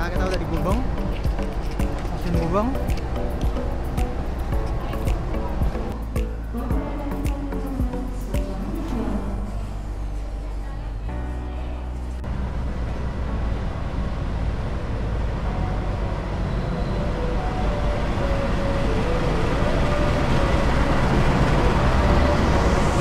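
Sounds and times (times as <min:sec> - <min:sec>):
locomotive rumble: 0:00.0 - 0:23.0.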